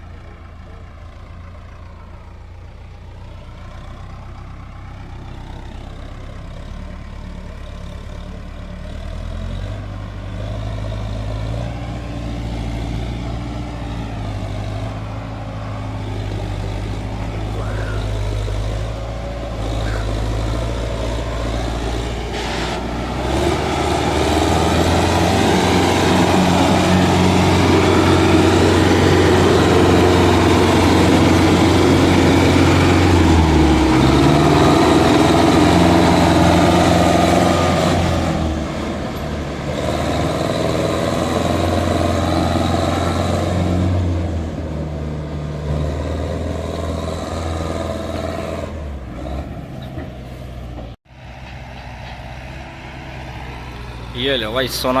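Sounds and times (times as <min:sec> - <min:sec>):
tractor diesel engine working: 0:00.0 - 0:55.0.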